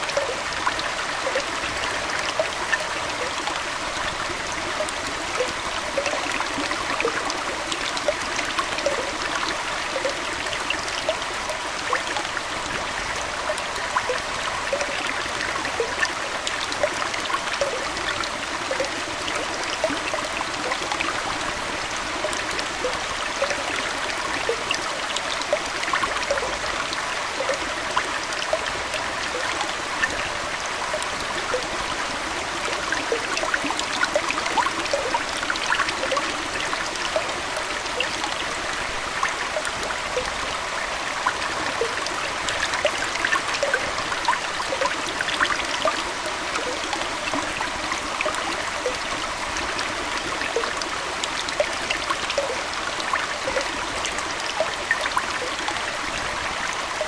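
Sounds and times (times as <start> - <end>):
aquarium water trickling: 0.0 - 57.0
small bubbly plinks: 0.0 - 57.0.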